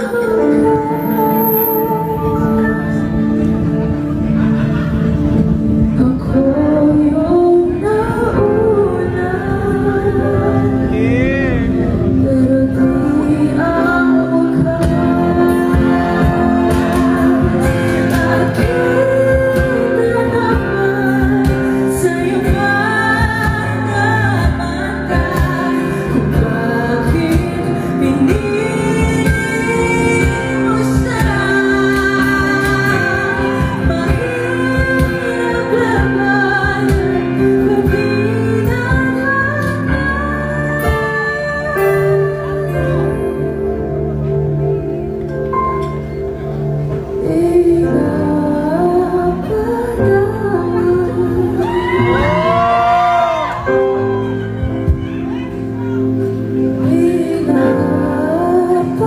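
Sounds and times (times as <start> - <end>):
woman singing a slow ballad: 0.0 - 3.8, 5.7 - 11.0, 11.8 - 45.0, 46.8 - 59.0
instrumental accompaniment: 0.0 - 59.0.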